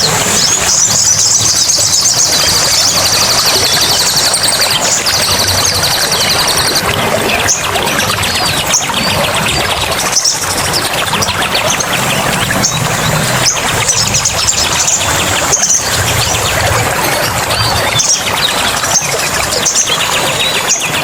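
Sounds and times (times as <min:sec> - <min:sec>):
running water: 0:00.0 - 0:21.0
songbirds chirping and trilling: 0:00.0 - 0:21.0.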